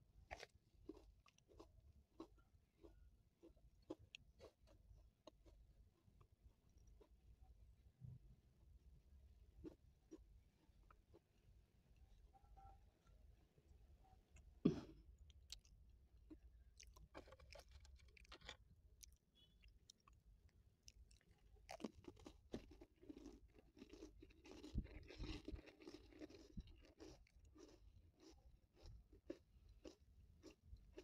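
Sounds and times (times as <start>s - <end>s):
biscuit crunching and chewing: 0.1s - 7.2s, 9.4s - 11.6s, 14.4s - 31.0s.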